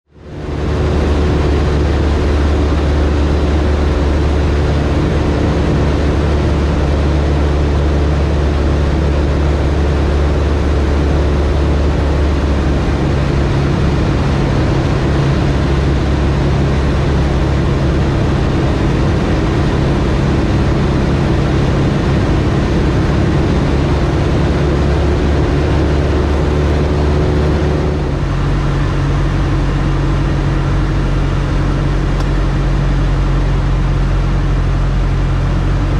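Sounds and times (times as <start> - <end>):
light plane engine and propeller: 0.1 - 35.9.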